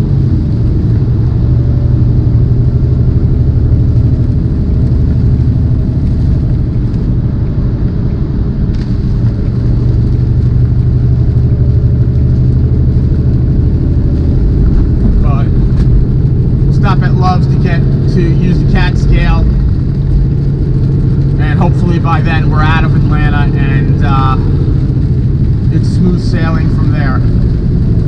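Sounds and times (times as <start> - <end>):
diesel truck engine drone: 0.0 - 28.0
road noise: 0.0 - 28.0.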